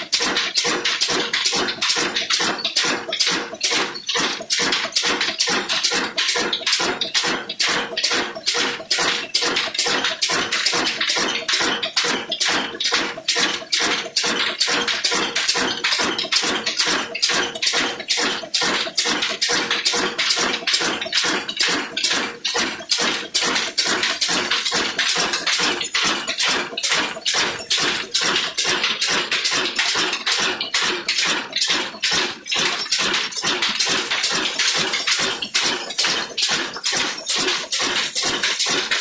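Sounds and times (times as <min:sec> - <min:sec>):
stationary diesel engine running: 0:00.1 - 0:30.2, 0:33.0 - 0:39.0.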